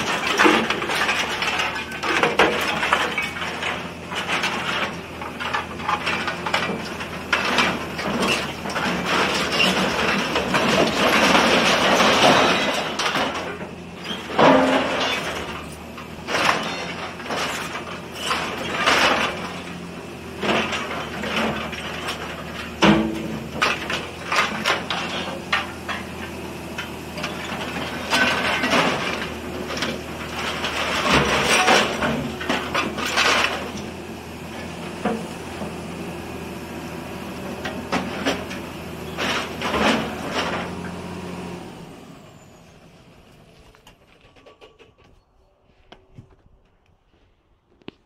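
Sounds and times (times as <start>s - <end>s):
diesel engine running: 0.0s - 45.1s
scrap metal clanking and crunching: 0.0s - 48.0s.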